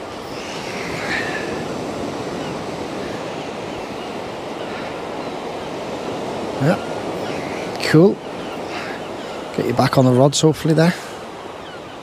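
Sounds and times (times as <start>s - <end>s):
sea surf breaking: 0.0s - 12.0s.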